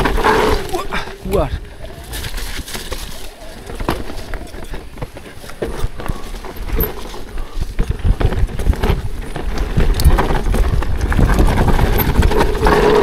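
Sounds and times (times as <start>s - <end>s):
bike chain and frame rattling: 0.0s - 13.0s
bike tyres knocking on stones: 2.1s - 13.0s.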